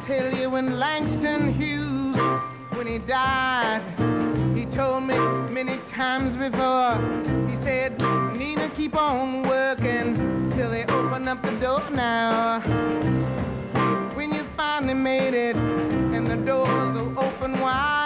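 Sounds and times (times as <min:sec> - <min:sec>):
grand piano: 0:00.0 - 0:17.9
drums: 0:00.0 - 0:18.0.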